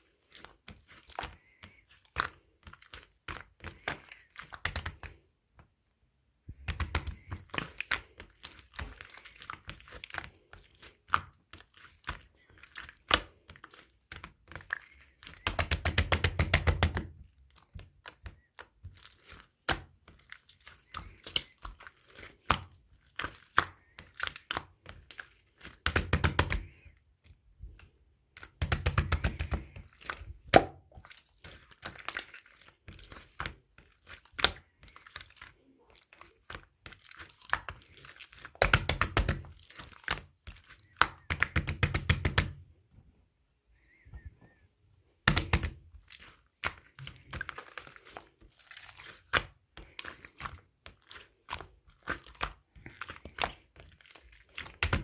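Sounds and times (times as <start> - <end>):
slime squished by hand: 6.5 - 42.6, 45.2 - 55.0.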